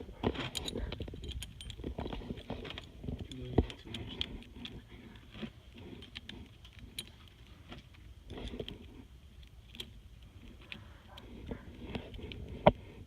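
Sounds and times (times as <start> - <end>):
metal parts clicking and clinking: 0.0 - 12.3.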